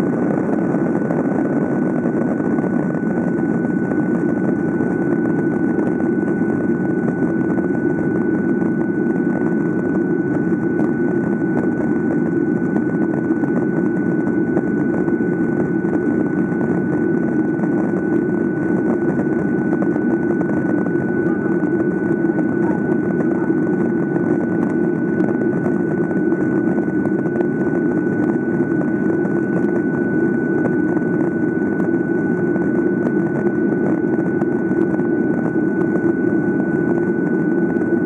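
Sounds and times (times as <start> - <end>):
jet engines roaring: 0.0 - 38.0
thin constant whine: 0.0 - 38.0.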